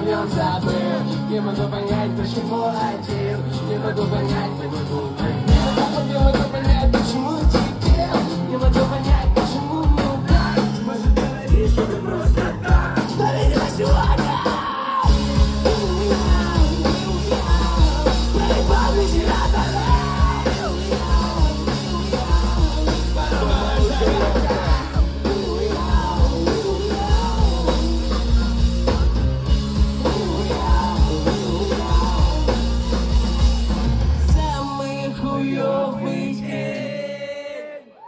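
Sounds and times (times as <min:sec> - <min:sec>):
drum kit: 0:00.0 - 0:35.0
heavy bass line: 0:00.0 - 0:35.0
electric guitars: 0:00.0 - 0:37.2
sung vocals: 0:00.0 - 0:38.0.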